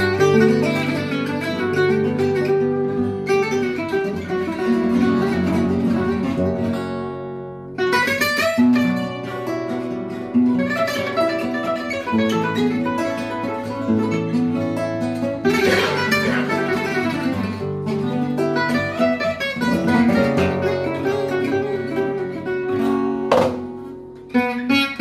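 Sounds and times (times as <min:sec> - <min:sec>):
acoustic guitars strummed: 0:00.0 - 0:25.0.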